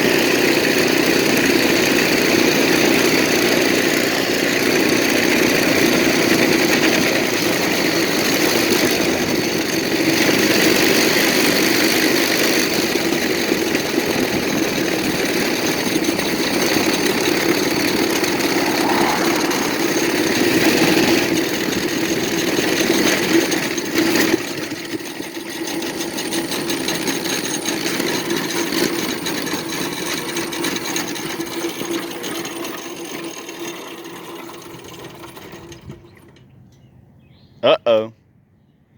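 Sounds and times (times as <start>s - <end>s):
minibike engine running: 0.0s - 36.6s.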